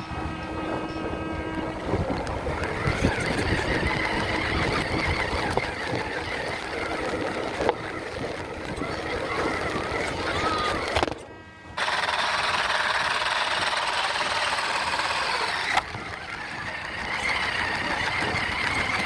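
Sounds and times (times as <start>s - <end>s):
surrounding noise: 0.0s - 19.0s
toy truck motor whining: 1.5s - 19.0s.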